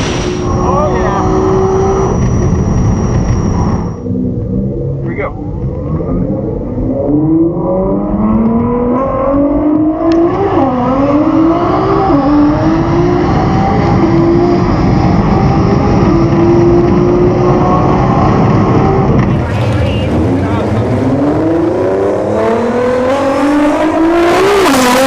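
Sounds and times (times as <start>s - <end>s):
race car engine accelerating: 0.0s - 25.0s
road and wind noise: 0.0s - 25.0s.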